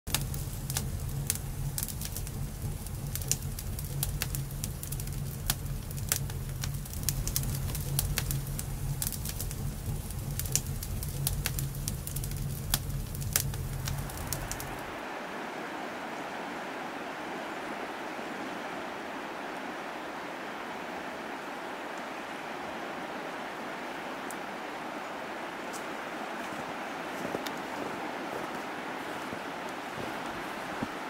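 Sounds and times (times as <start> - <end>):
wood fire crackling: 0.1 - 31.0.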